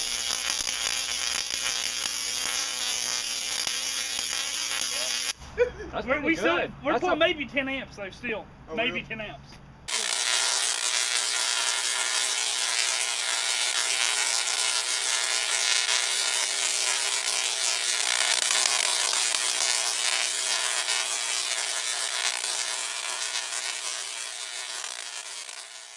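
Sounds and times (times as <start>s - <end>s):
tesla coil sparks buzzing: 0.0s - 5.4s, 9.9s - 25.9s.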